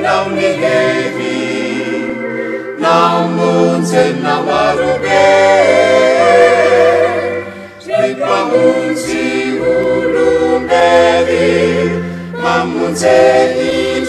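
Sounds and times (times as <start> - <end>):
group singing a hymn in harmony: 0.0 - 14.0.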